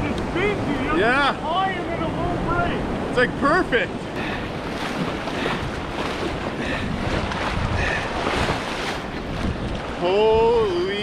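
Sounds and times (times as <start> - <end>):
river rapids churning and splashing: 0.0 - 11.0
wind buffeting microphone: 0.0 - 11.0.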